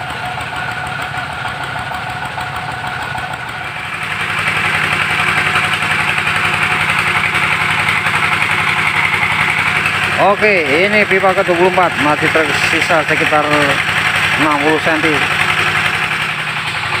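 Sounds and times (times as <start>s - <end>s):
drilling rig engine humming: 0.0s - 17.0s.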